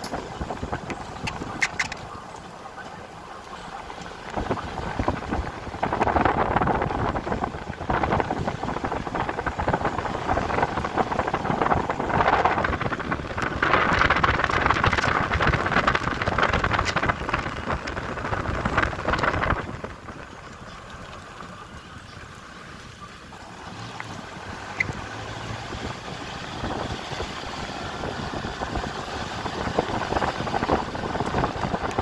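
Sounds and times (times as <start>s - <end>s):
wind buffeting microphone: 0.0s - 2.2s, 3.7s - 32.0s
moving vehicle rumble: 0.0s - 32.0s.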